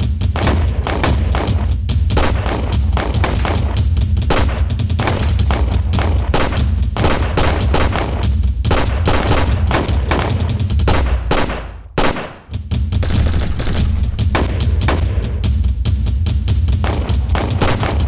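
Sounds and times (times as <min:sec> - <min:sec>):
rapid gunfire: 0:00.0 - 0:15.6, 0:16.6 - 0:18.0.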